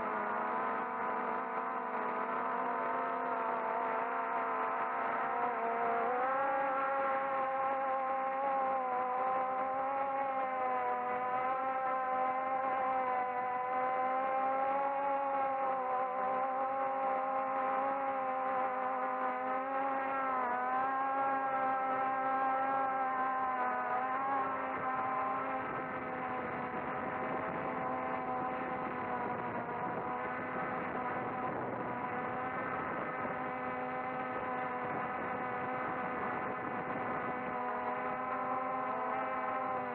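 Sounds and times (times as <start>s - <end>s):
quadcopter motors whirring: 0.0s - 39.9s.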